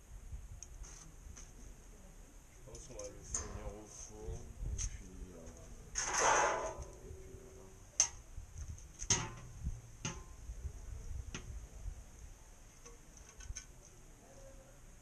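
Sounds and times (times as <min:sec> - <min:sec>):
faint high-pitched hum: 0:00.0 - 0:15.0.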